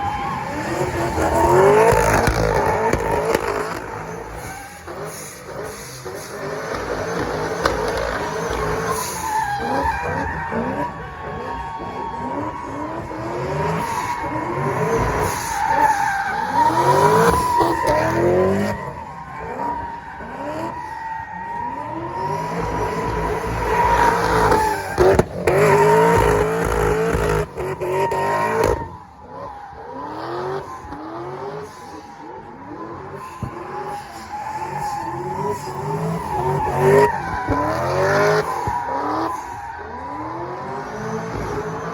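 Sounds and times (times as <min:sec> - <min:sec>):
car engines revving: 0:00.0 - 0:41.9
tires squealing: 0:00.0 - 0:41.9.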